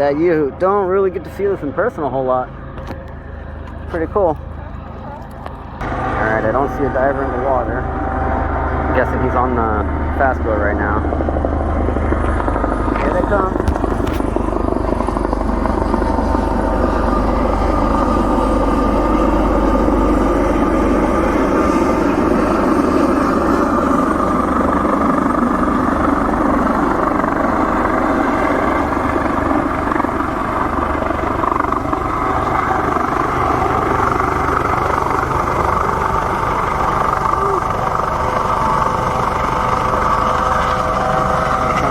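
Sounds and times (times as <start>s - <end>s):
helicopter rotor and engine: 0.0s - 41.9s.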